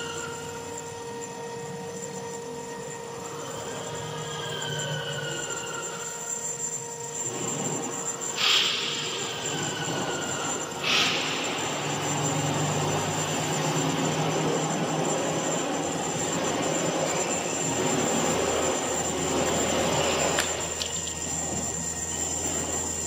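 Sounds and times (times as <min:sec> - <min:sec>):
metal cutting and grinding: 0:00.0 - 0:23.0
router spindle high whine: 0:00.0 - 0:23.0.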